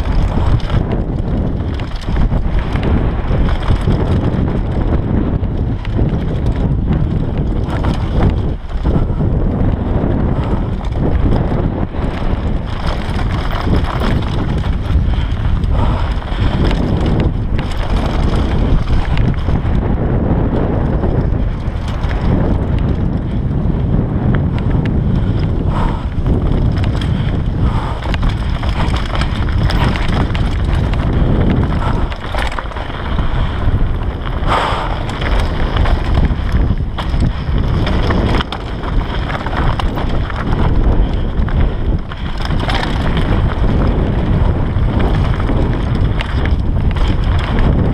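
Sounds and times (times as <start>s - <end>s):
bike chain and frame clattering: 0.0s - 47.9s
tyres rumbling on dirt: 0.0s - 47.9s
wind buffeting microphone: 0.0s - 47.9s.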